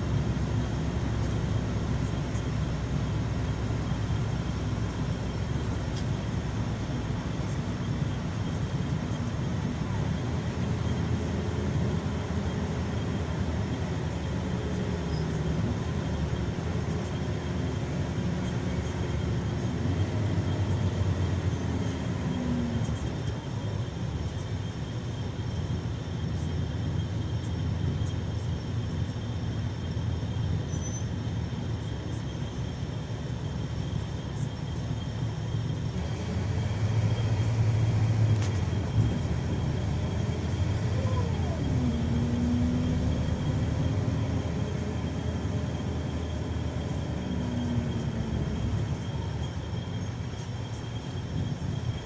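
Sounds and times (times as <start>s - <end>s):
coach engine drone: 0.0s - 52.0s
road and tyre noise: 0.0s - 52.0s.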